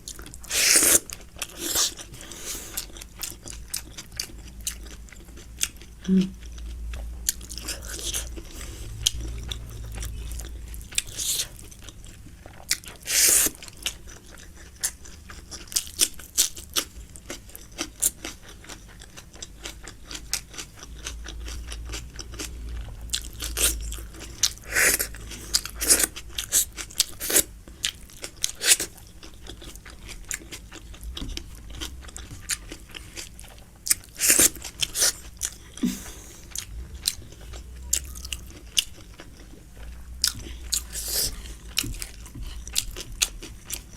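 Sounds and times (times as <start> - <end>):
wet mouth chewing sounds: 0.0 - 43.9.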